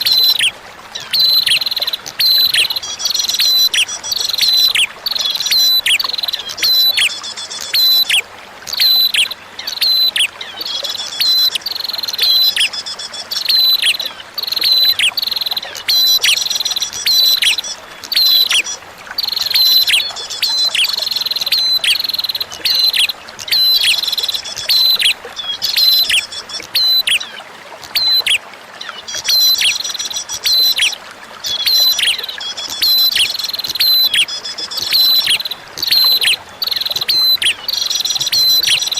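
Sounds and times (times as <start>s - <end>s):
bird chirping: 0.0s - 27.3s, 31.5s - 38.9s
faint flowing water: 0.0s - 38.9s.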